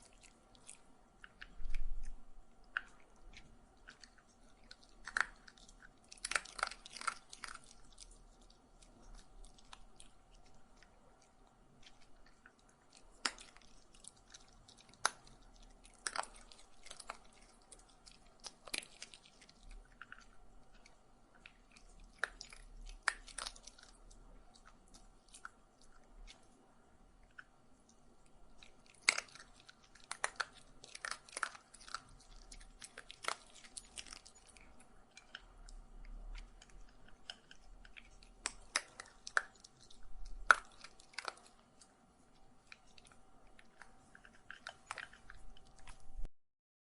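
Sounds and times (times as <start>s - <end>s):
dog chewing food: 0.0s - 46.3s.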